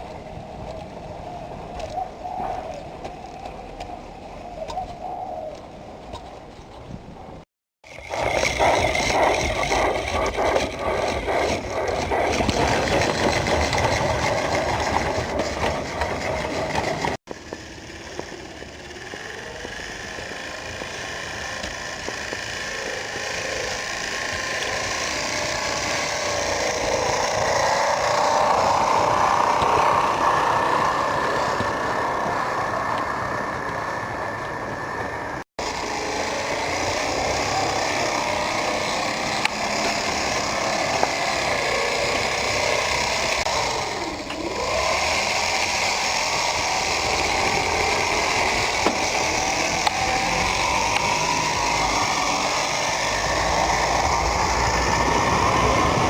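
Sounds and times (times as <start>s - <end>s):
model train motor humming: 7.9s - 56.0s.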